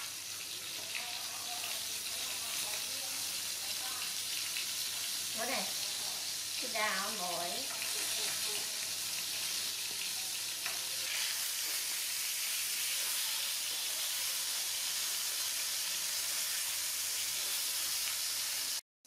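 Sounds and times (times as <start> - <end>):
fish sizzling in hot oil: 0.0 - 18.8.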